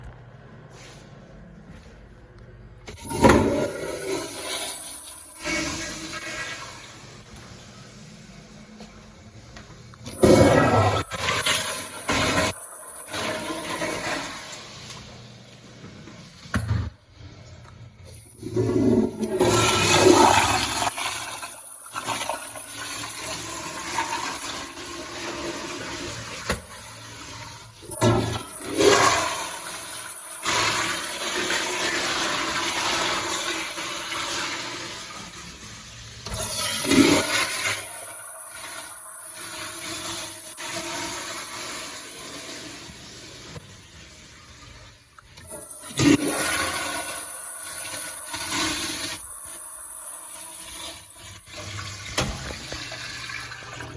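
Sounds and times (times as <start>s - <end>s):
toilets flushing: 2.8s - 53.9s.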